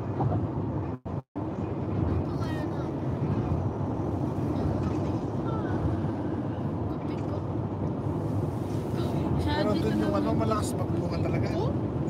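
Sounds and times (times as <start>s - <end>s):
car engine: 0.0s - 12.0s
tyre road noise: 0.0s - 12.0s.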